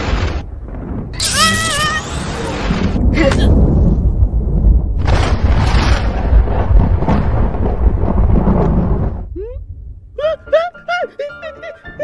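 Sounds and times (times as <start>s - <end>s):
deep rumbling: 0.0s - 11.0s.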